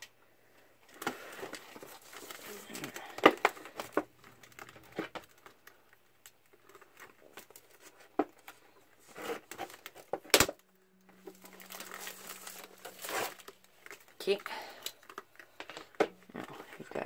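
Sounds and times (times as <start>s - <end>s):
plastic packaging crinkling: 0.8s - 17.0s.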